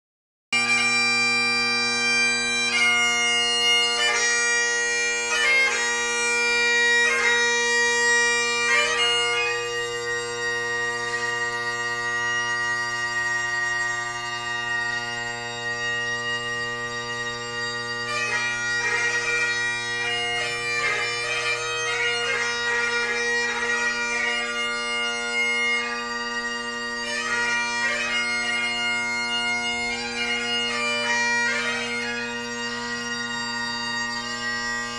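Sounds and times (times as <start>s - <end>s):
bagpipe chanter melody: 0.6s - 34.9s
bagpipe drones: 0.6s - 34.9s.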